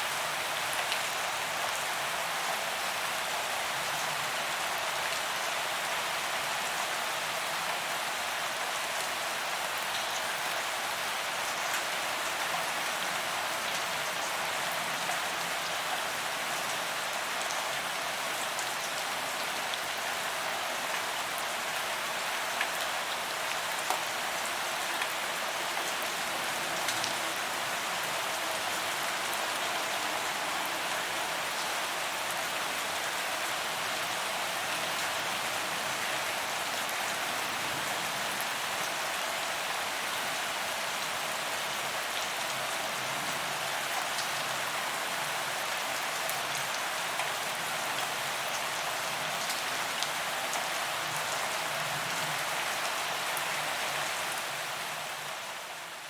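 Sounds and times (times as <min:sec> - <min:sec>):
rain on pavement: 0:00.0 - 0:56.0.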